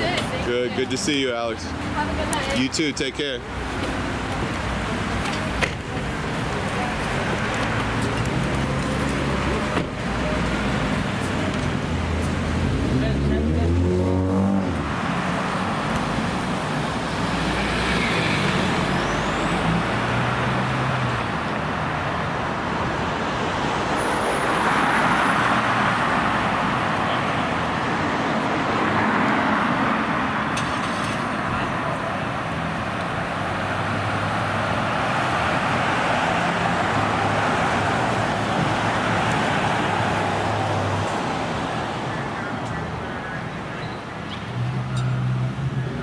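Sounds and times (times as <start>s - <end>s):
hum of traffic: 0.0s - 46.0s
vehicles passing: 0.0s - 46.0s.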